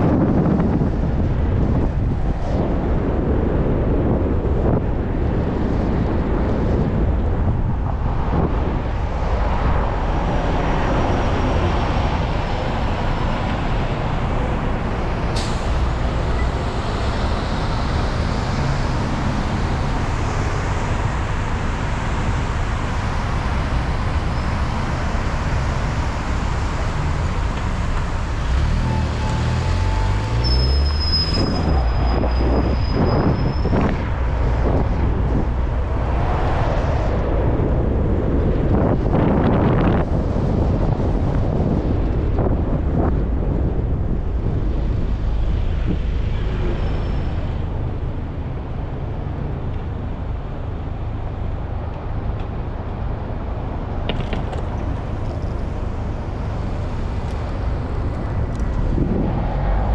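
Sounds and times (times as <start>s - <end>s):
road and traffic noise: 0.0s - 59.9s
wind rushing over microphone: 0.0s - 59.9s.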